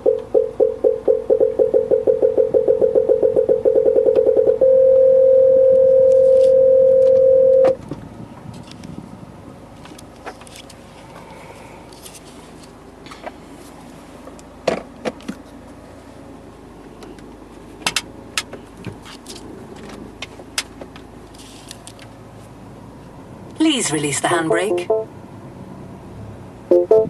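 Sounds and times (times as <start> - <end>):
low car cabin hum: 0.0 - 27.0.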